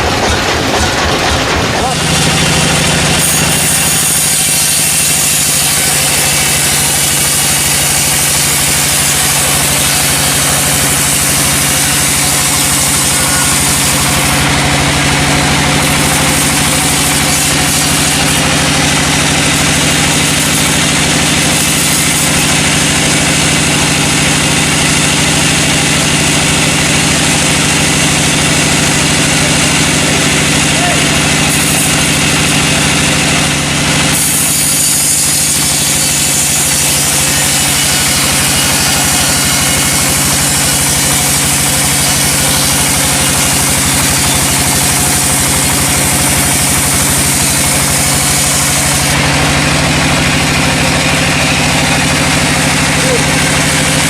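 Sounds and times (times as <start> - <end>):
sawmill machinery droning: 0.0 - 54.0.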